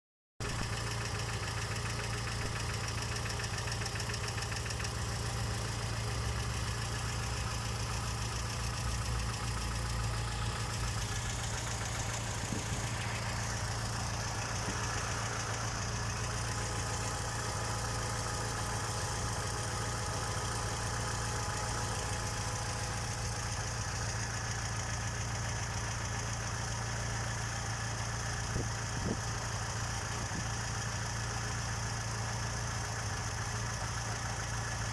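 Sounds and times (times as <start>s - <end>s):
car engine idling: 0.4s - 34.9s
engine knocking: 0.4s - 34.9s.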